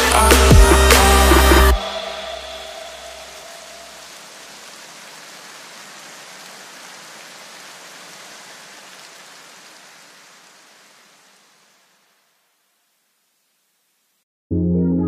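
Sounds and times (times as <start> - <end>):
steady hiss noise: 0.0 - 14.2.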